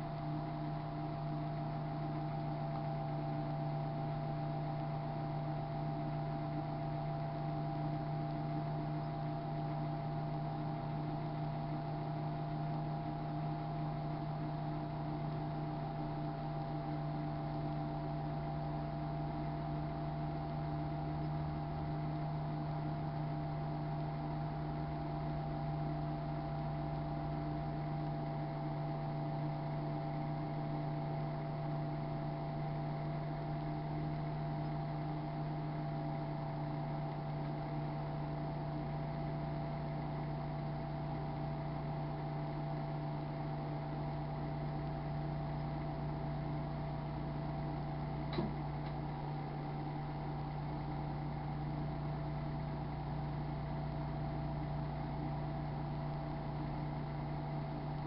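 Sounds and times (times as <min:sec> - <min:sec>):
microwave oven humming: 0:00.0 - 0:58.0.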